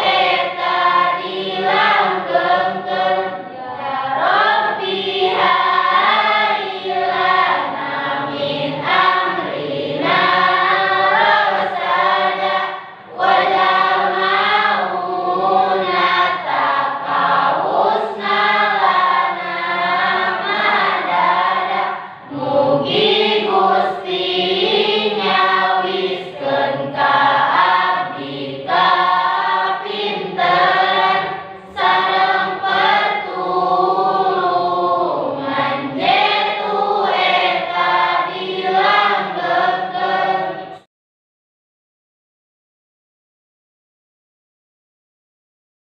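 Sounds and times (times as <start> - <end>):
students singing together: 0.0 - 40.9.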